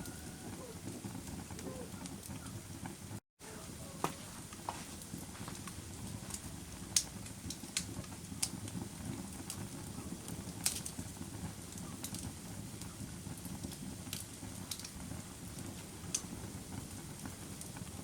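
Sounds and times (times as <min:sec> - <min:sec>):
burning wood crackling and popping: 0:00.0 - 0:18.0
low rumble of fire: 0:00.0 - 0:18.0.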